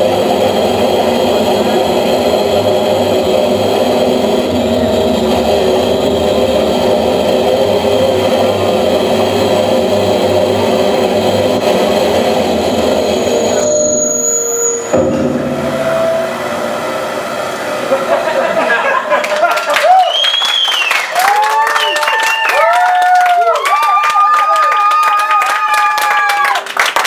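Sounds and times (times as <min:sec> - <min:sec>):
harsh noise music drone: 0:00.0 - 0:21.8.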